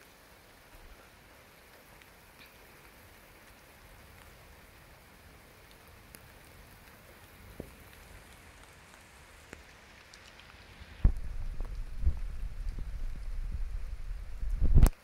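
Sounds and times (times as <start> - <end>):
faint rain: 0.0 - 15.0.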